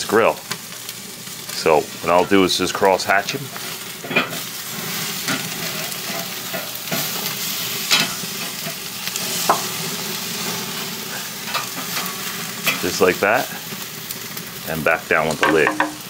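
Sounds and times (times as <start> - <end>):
steaks sizzling: 0.0 - 16.0.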